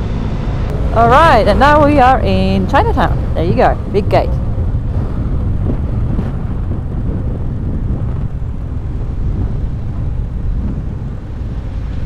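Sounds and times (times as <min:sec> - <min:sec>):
motorcycle engine rumbling: 0:00.0 - 0:12.0
road and wind noise: 0:00.0 - 0:12.0.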